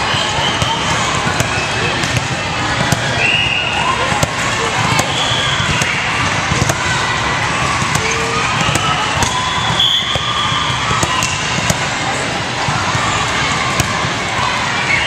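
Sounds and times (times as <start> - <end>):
din of many voices: 0.0 - 15.0
volleyballs smacking: 0.5 - 14.4.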